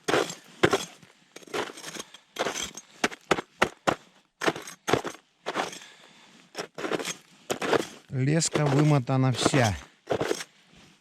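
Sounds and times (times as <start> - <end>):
snow and ice crunching: 0.0 - 11.0.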